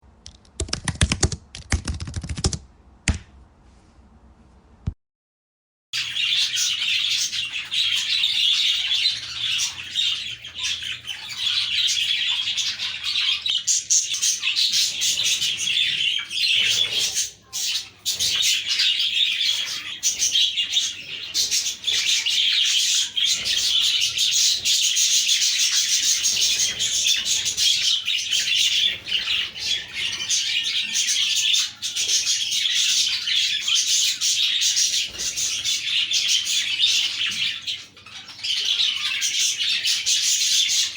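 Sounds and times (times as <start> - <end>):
budgerigars chirping and warbling: 6.0 - 40.9.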